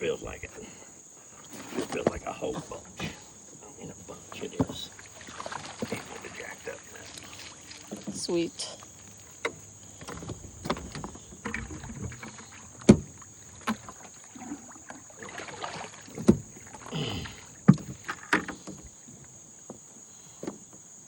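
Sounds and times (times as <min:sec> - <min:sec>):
splashing and rustling: 0:00.0 - 0:20.7.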